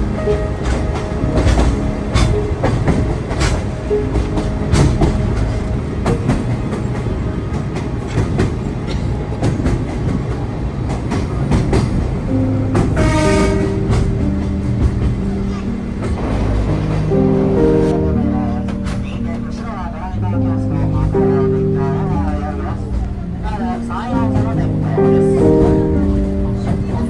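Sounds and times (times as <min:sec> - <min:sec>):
train cars rumbling: 0:00.0 - 0:27.0
wheels and couplings clacking: 0:00.0 - 0:27.0.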